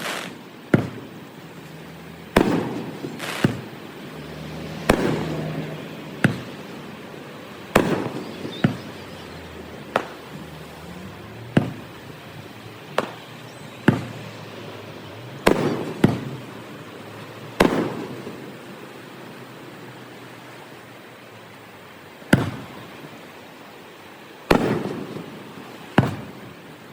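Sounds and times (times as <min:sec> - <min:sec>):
fireworks bursting: 0:00.0 - 0:21.6, 0:22.2 - 0:26.9.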